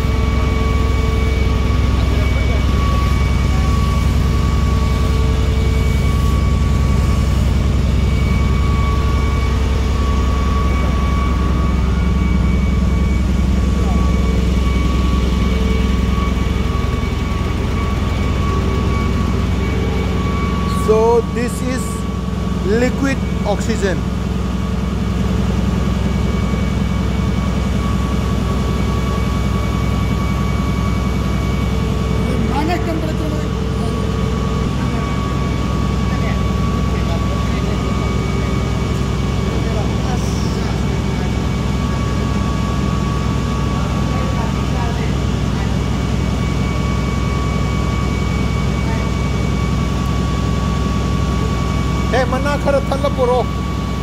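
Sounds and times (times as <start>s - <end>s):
electric motor drone: 0.0s - 54.0s
faint constant whine: 0.0s - 54.0s
industrial machinery humming: 0.0s - 54.0s.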